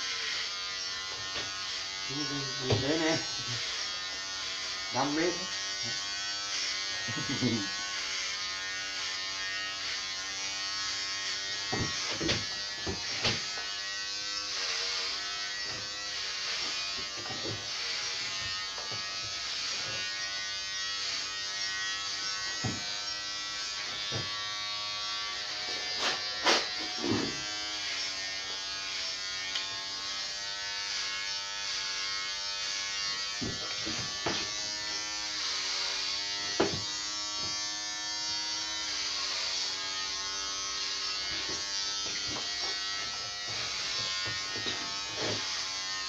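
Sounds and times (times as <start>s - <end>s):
electric hair clippers buzzing: 0.0s - 46.0s.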